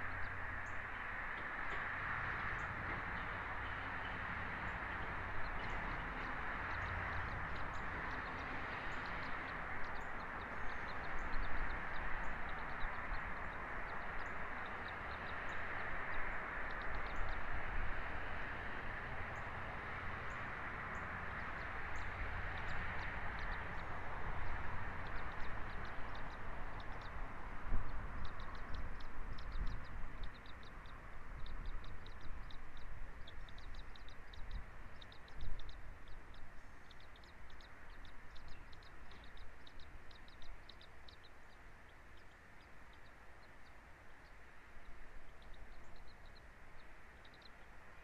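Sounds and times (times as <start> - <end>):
small birds chirping: 0.0 - 48.0
wind through trees: 0.0 - 48.0.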